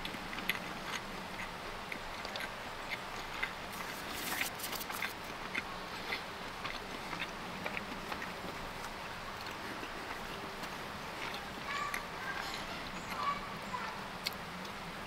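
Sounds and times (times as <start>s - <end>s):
chewing pizza: 0.0s - 14.8s
outdoor background noise: 0.0s - 15.0s.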